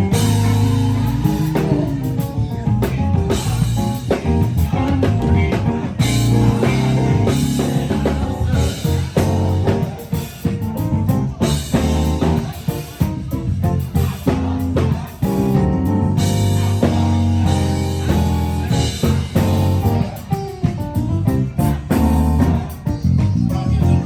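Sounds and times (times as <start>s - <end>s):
drum kit: 0.0s - 24.0s
guitar: 0.0s - 24.0s.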